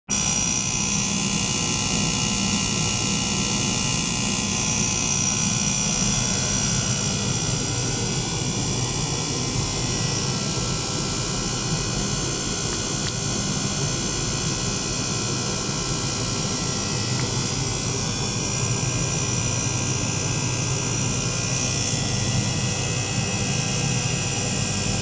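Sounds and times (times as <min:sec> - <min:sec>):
low pump hum: 0:00.4 - 0:25.0.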